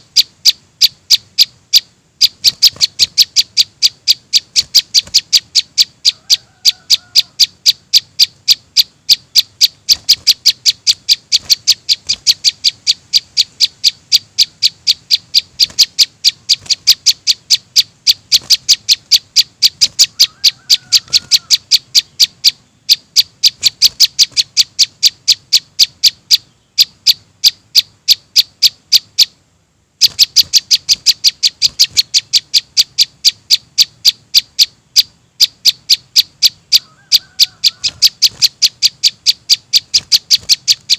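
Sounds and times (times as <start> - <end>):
bird calls sharp high chips: 0.0 - 29.4, 30.0 - 40.9.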